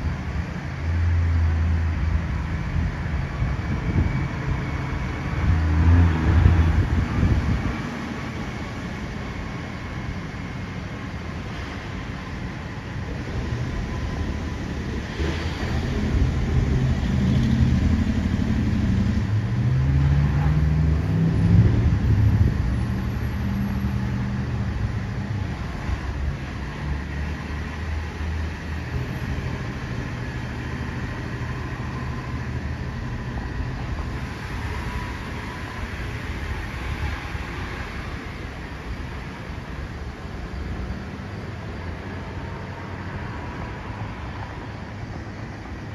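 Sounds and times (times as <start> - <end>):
vehicle passing with engine hum: 0.0 - 45.9.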